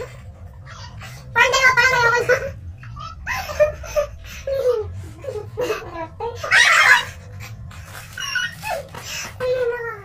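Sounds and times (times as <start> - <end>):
girls laughing: 0.0 - 9.1.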